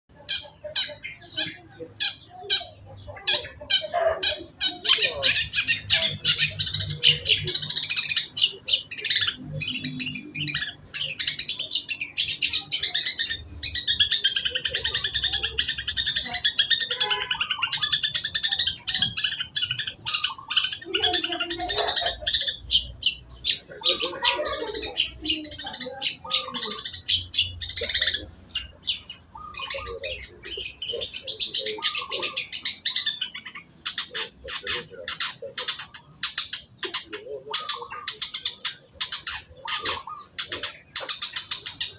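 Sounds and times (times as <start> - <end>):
bird singing: 0.1 - 41.9.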